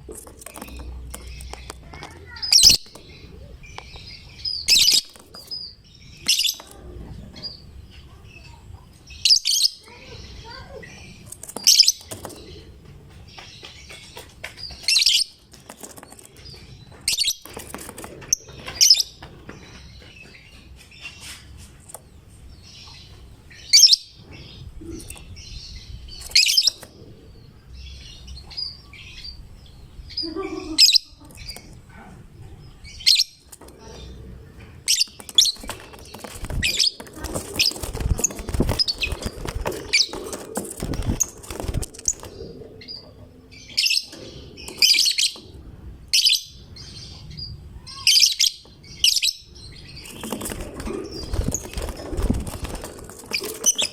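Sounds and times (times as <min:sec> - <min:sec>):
soft chattering twitter: 0:00.0 - 0:53.9.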